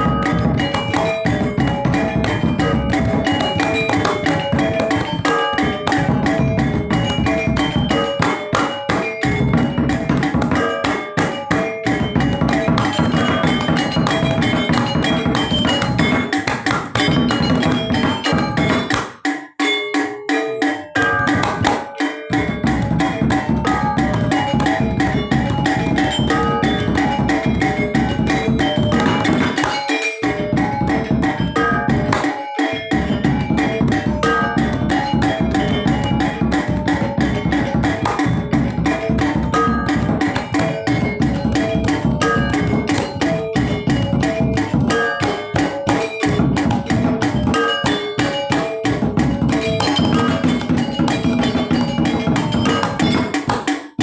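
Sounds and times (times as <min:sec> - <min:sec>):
hand drumming: 0:00.0 - 0:54.0.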